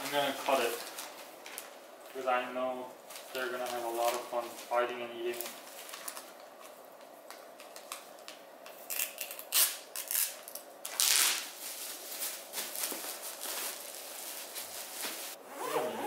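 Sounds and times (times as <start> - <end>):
plastic crinkling: 0.0 - 2.3, 3.0 - 15.4.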